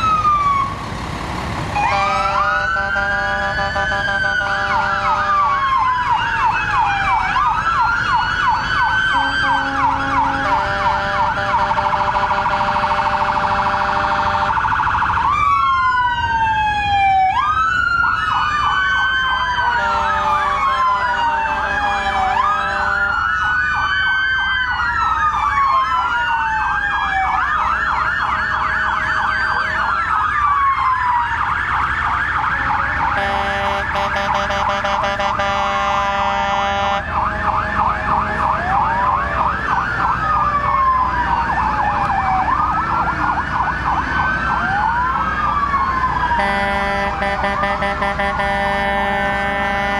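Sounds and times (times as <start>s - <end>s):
siren slow wail: 0.0s - 49.9s.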